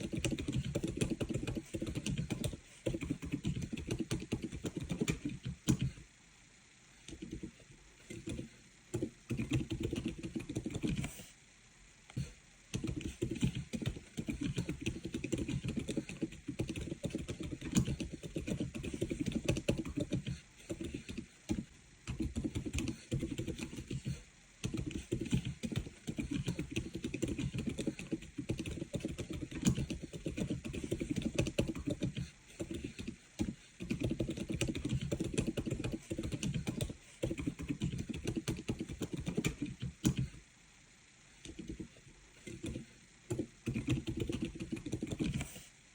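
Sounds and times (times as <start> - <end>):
mechanical keyboard typing: 0.0 - 6.0, 8.1 - 11.1, 12.8 - 40.4, 42.5 - 45.5.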